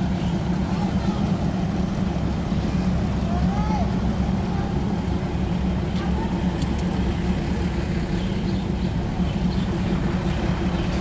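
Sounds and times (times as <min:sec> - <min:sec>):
train engine idling: 0:00.0 - 0:11.0.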